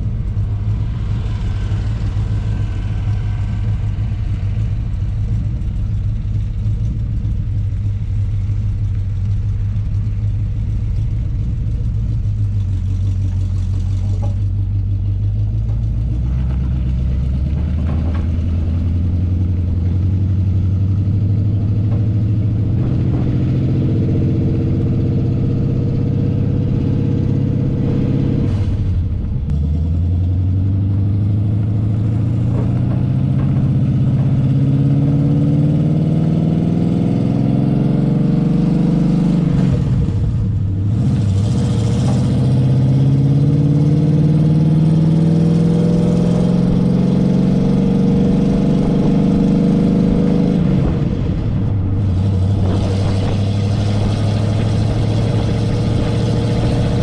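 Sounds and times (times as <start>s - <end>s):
truck engine pulling hard: 0.0s - 57.0s.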